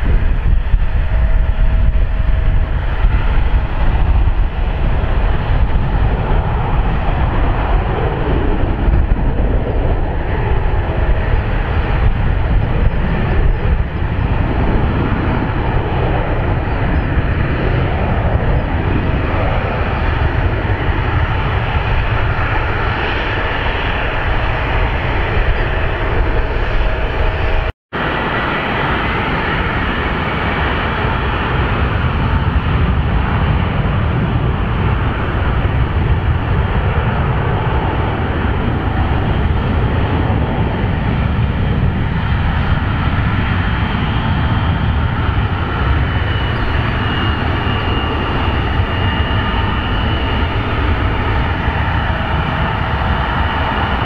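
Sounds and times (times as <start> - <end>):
higher jet engine whine: 0.0 - 54.0
jet engines rumbling with whine: 0.0 - 54.0.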